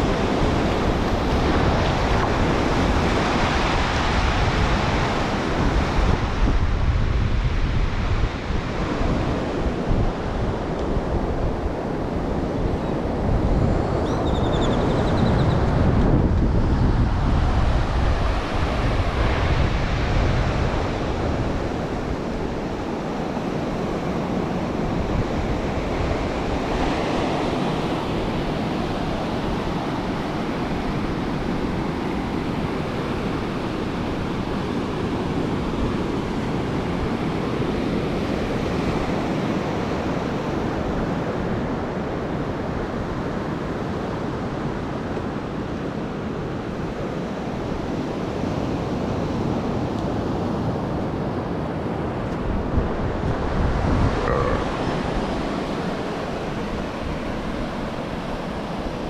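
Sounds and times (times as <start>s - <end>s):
ocean surf washing onto beach: 0.0s - 14.6s, 15.5s - 59.0s
wind buffeting microphone: 0.0s - 59.0s.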